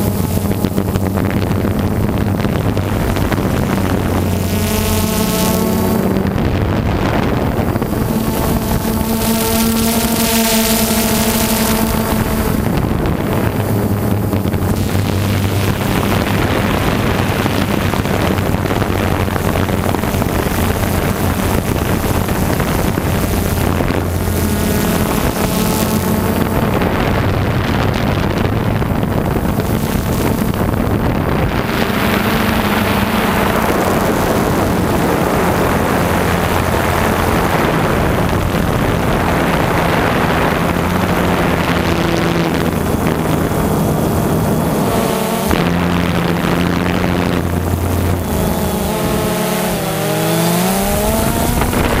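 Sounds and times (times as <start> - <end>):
aircraft motors humming: 0.0 - 52.0
wind noise on microphone: 0.0 - 52.0.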